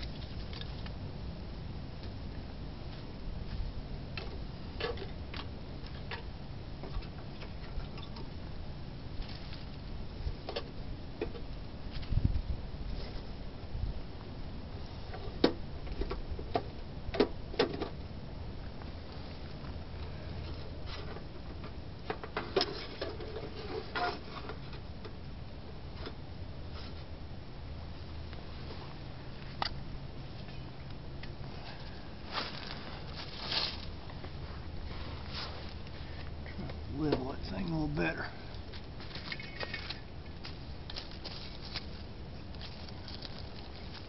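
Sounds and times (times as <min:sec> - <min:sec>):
low steady rumble: 0:00.0 - 0:44.0.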